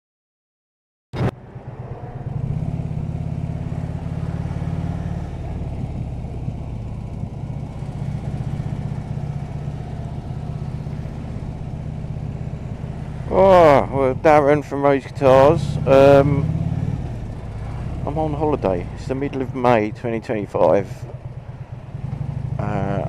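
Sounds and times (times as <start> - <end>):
motorcycle engine running: 1.2 - 23.0.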